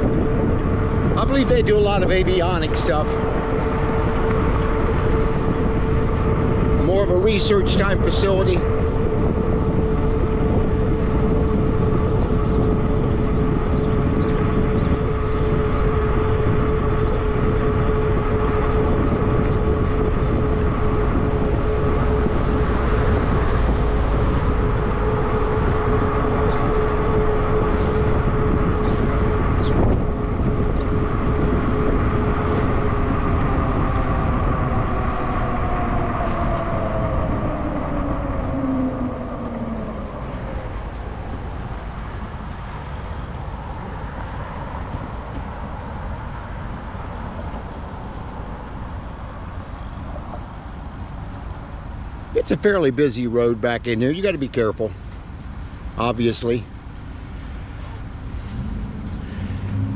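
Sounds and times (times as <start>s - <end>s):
bike tire hum on pavement: 0.0s - 59.9s
wind rushing over microphone: 0.0s - 59.9s.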